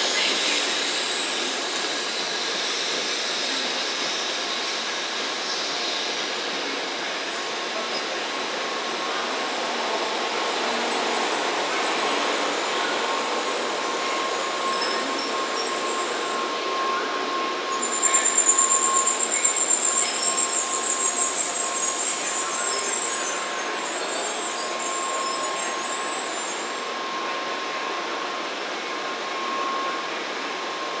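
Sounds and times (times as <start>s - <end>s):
high-pitched train whine: 0.0s - 31.0s
train rumble and hiss: 0.0s - 31.0s.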